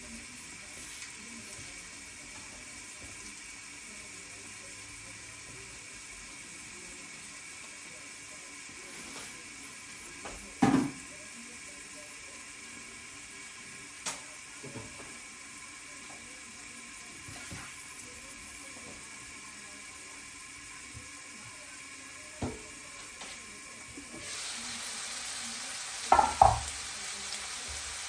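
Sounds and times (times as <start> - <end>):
food sizzling in covered pan: 0.0 - 28.0.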